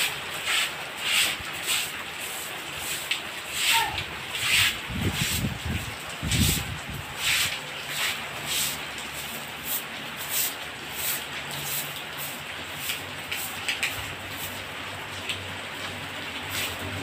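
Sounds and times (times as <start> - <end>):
rain in strong wind: 0.0 - 17.0.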